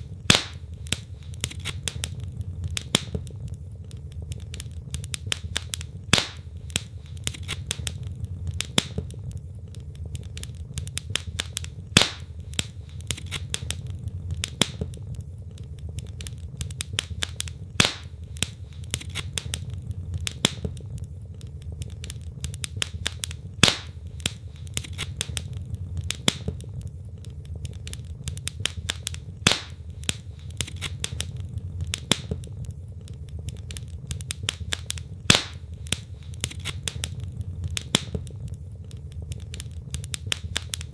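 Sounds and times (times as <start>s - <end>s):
logs crackling in fireplace: 0.0s - 40.9s
low rumble of flames: 0.0s - 40.9s
sharp fire pops: 0.0s - 40.9s.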